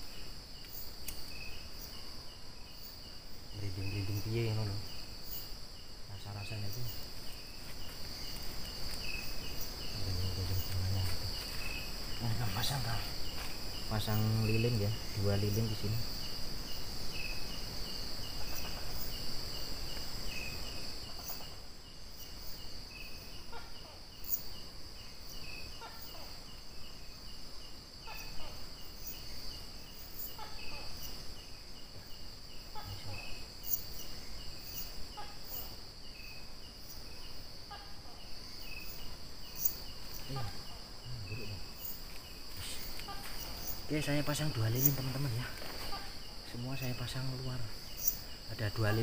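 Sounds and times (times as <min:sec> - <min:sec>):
crickets chirping: 0:00.0 - 0:49.0
high-pitched insect drone: 0:00.0 - 0:49.0.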